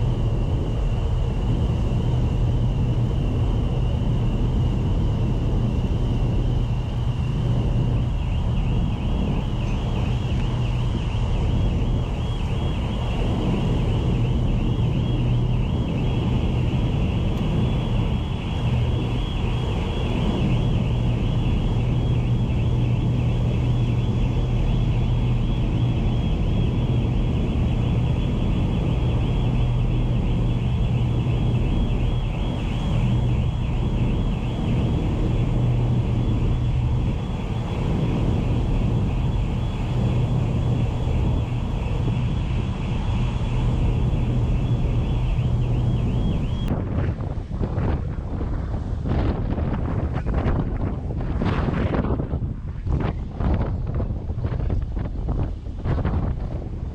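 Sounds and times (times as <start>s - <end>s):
fast fluttering buzz: 0.0s - 46.7s
diesel machinery humming: 0.0s - 56.9s.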